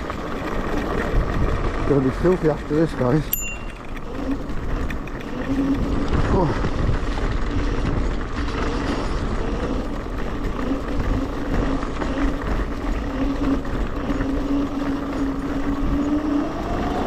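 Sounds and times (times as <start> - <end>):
electric scooter motor whine: 0.0 - 17.0
wind and tyre rumble: 0.0 - 17.0.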